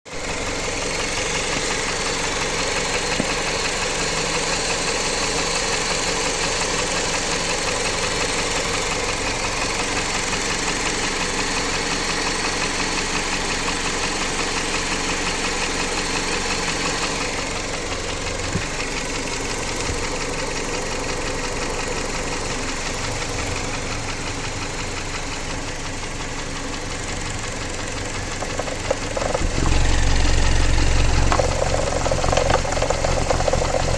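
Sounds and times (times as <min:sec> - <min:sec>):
engine running with knocking: 0:00.1 - 0:33.9.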